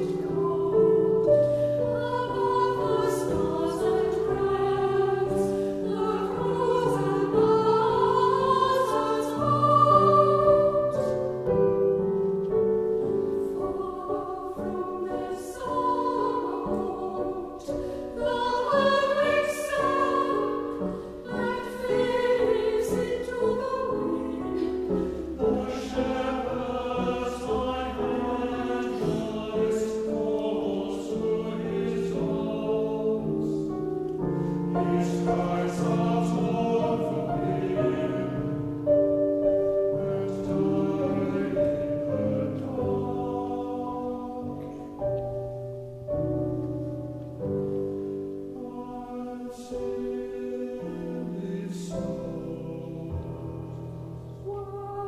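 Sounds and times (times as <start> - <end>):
mixed choir singing: 0.0 - 45.6, 47.6 - 55.0
piano accompaniment: 0.0 - 55.0.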